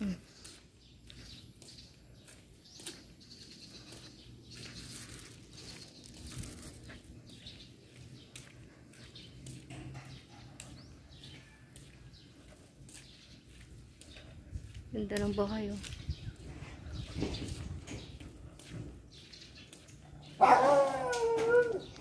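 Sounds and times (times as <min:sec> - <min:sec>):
footsteps: 0:00.0 - 0:22.0
quiet street ambience: 0:00.0 - 0:22.0.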